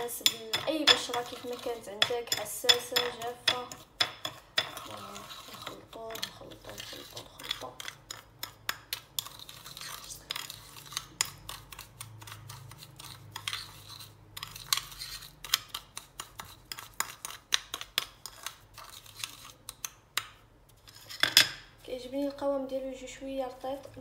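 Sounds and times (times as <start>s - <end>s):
spoon scraping gritty paste: 0.0s - 21.3s.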